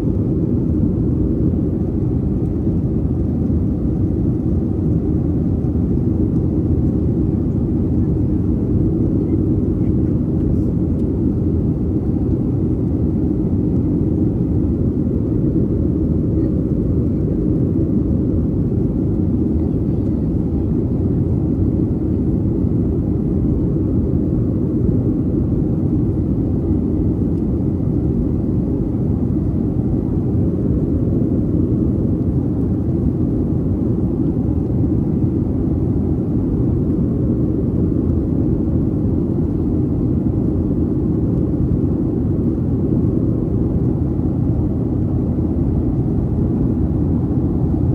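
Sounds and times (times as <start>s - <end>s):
airplane cabin engine roar: 0.0s - 47.9s.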